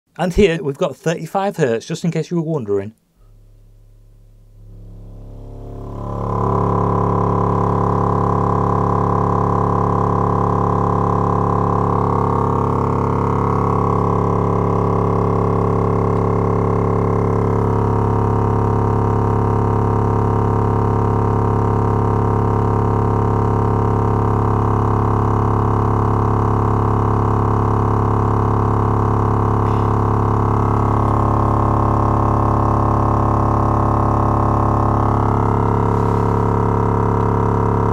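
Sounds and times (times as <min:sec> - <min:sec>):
buzzy distorted subwoofer drone: 0:03.1 - 0:37.9.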